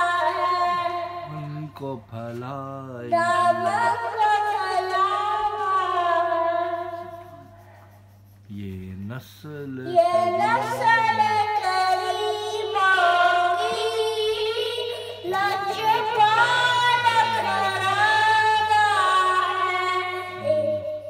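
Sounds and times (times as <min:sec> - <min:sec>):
boy reciting melodically: 0:00.0 - 0:07.6, 0:08.5 - 0:21.0.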